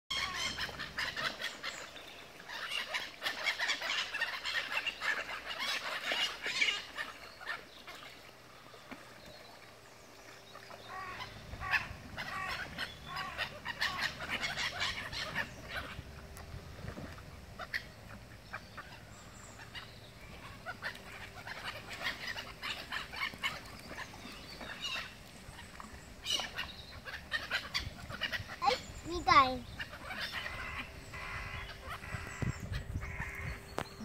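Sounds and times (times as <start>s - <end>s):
gulls calling: 0.1s - 34.0s.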